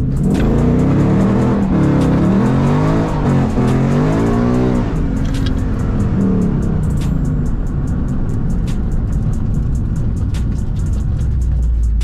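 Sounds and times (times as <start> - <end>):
background music: 0.0 - 12.0
car engine revving: 0.0 - 12.0.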